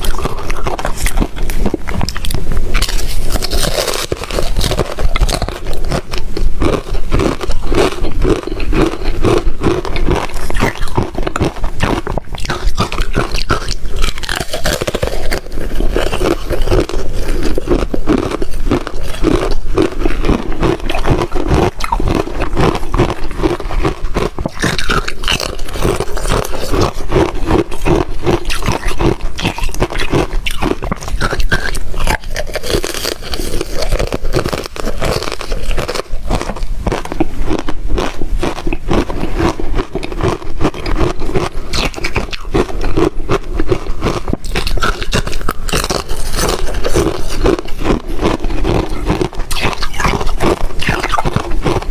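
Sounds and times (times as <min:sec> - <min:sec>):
chewing and crunching ice: 0:00.0 - 0:51.9.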